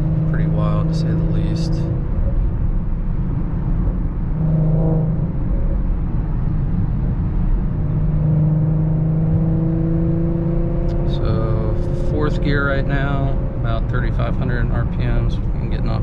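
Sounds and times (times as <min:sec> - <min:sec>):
car exhaust drone: 0:00.0 - 0:16.0
road noise: 0:00.0 - 0:16.0.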